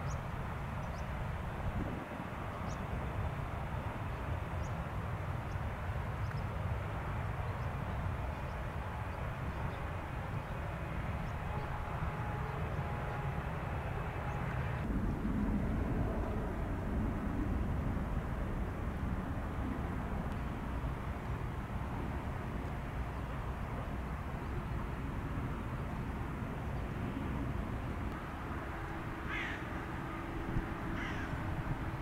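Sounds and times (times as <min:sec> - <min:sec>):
distant jet engines rumbling: 0:00.0 - 0:32.0.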